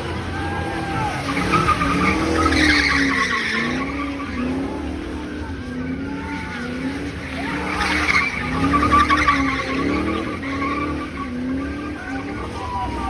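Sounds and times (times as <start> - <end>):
car engine revving: 0.0 - 13.0
tires squealing: 0.0 - 13.0.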